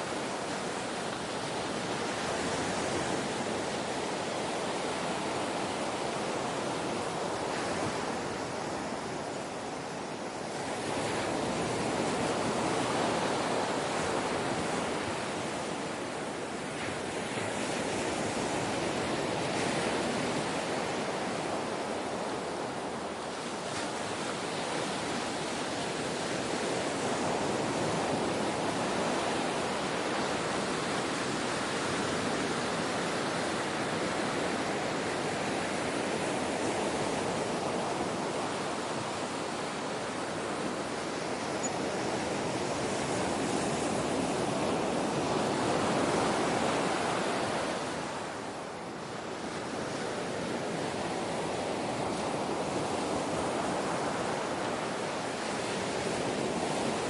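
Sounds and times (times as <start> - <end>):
ocean surf washing onto shore: 0.0 - 57.0.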